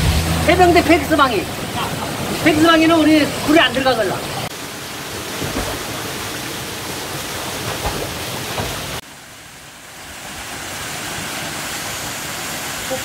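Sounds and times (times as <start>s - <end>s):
waterfall pouring into a pool: 0.2s - 13.0s.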